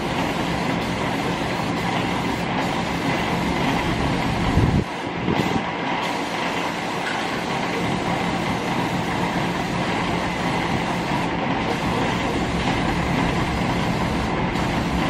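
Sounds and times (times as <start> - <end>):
aerosol spray can hissing: 0.0 - 15.0.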